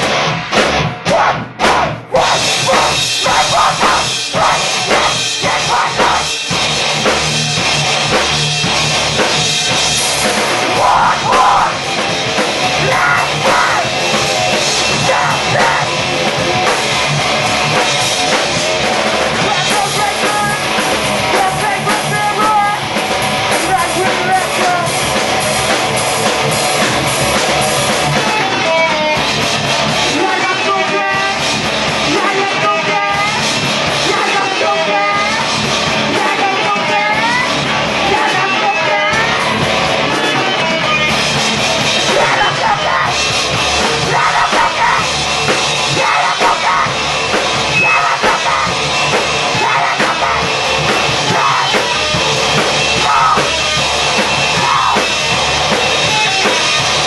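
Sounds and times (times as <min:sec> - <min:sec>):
drums hitting hard: 0:00.0 - 0:57.0
live rock band playing: 0:00.0 - 0:57.0.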